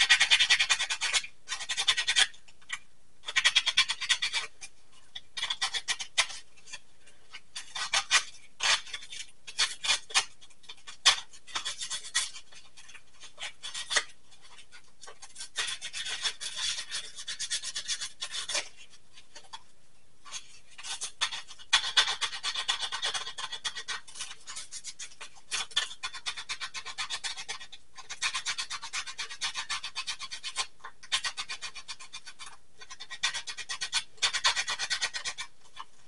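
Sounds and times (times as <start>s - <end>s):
sandpaper scratching resin: 0.0s - 4.7s, 5.4s - 19.0s, 20.2s - 36.0s.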